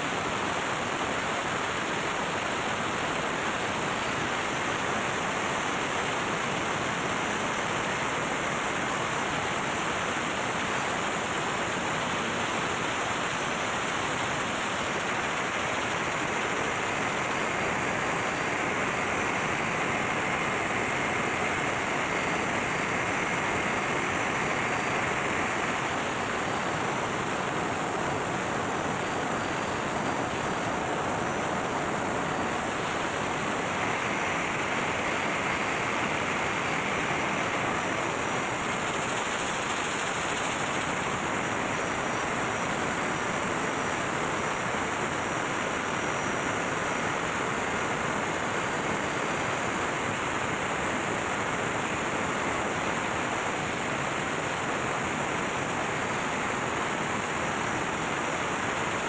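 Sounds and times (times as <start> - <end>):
faint high whine: 0.0 - 59.0.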